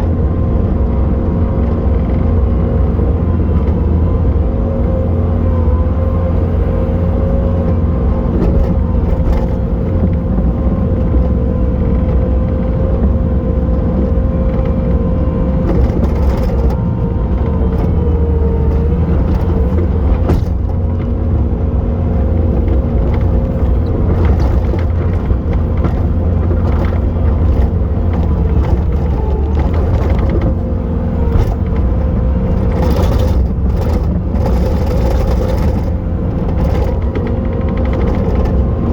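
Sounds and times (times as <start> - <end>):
track loader diesel rumble: 0.0 - 38.9.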